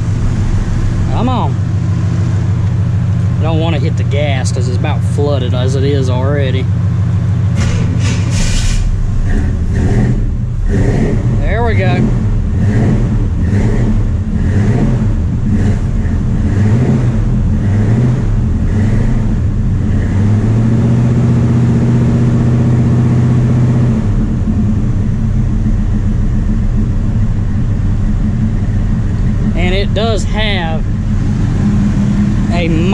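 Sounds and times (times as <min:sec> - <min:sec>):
car engine running unevenly: 0:00.0 - 0:32.9.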